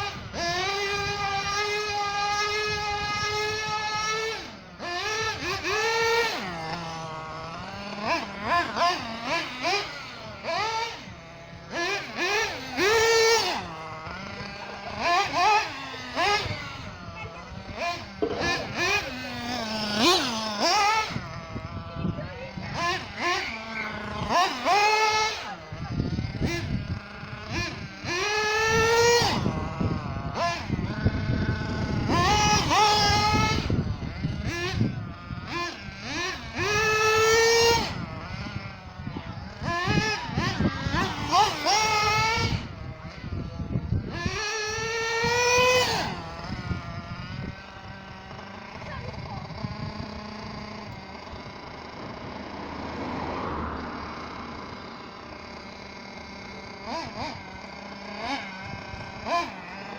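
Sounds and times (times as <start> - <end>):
model car engine idling: 0.0 - 59.9
model car engine revving: 0.0 - 59.9.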